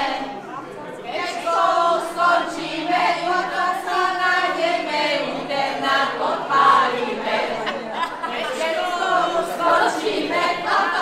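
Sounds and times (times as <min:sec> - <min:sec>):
group of women singing: 0:00.0 - 0:00.4, 0:01.0 - 0:11.0.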